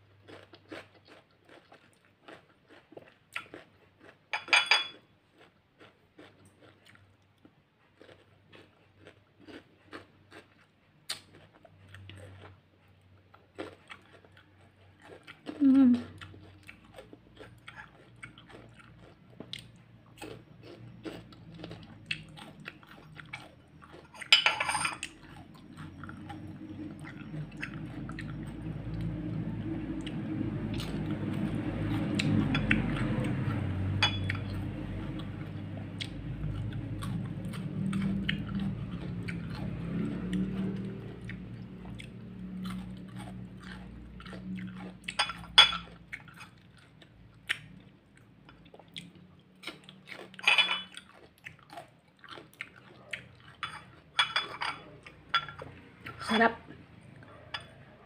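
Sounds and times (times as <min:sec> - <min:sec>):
crunchy chewing: 0:00.0 - 0:24.4, 0:25.0 - 0:56.2.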